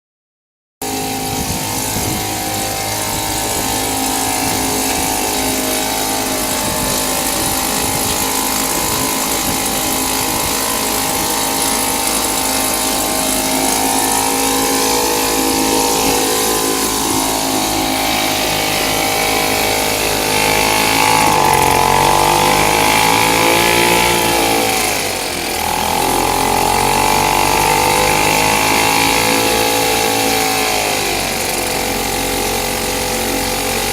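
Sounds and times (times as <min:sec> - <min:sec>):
outboard motor running: 0:00.8 - 0:33.9.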